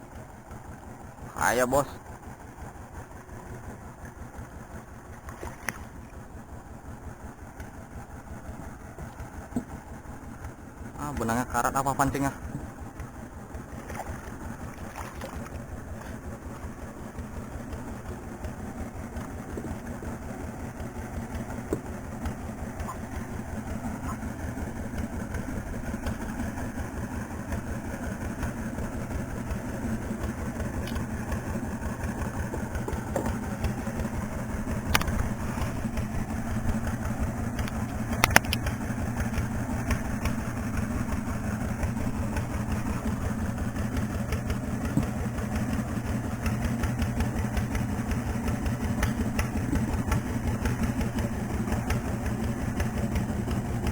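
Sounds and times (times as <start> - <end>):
boat engine chugging: 0.0 - 53.9.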